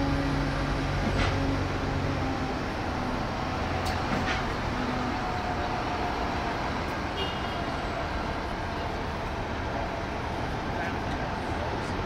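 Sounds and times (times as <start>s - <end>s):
bus idling: 0.0s - 12.0s
street traffic: 0.0s - 12.0s.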